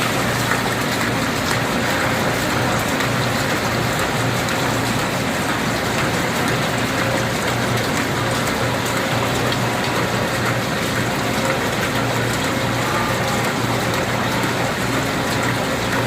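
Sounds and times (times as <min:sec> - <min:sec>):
splashing liquid: 0:00.0 - 0:16.0.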